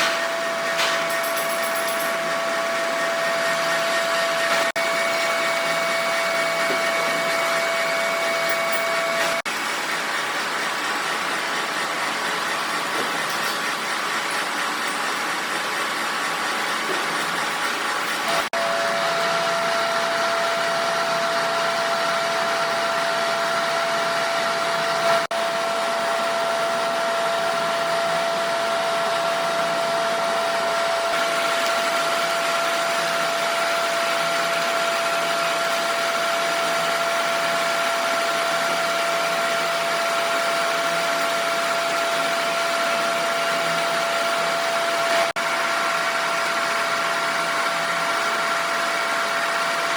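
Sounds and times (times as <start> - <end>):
machine whirring: 0.0 - 49.9.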